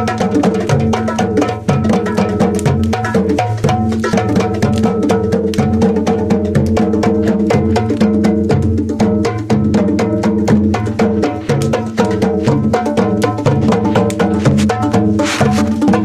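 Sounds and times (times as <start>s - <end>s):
hand drums played fast: 0.0s - 16.0s.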